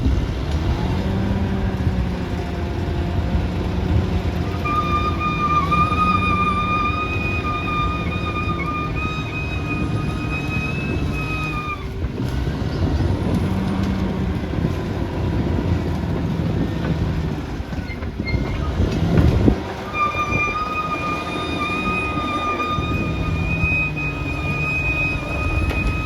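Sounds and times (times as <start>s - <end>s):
bulldozer diesel engine under load: 0.0s - 26.0s
tracks rumbling: 0.0s - 26.0s.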